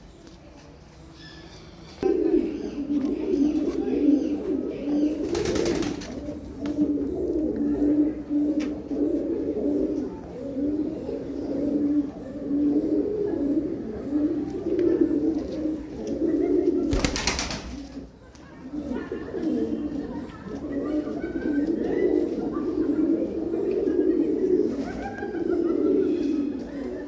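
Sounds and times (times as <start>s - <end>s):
pigeons cooing: 1.4s - 27.0s.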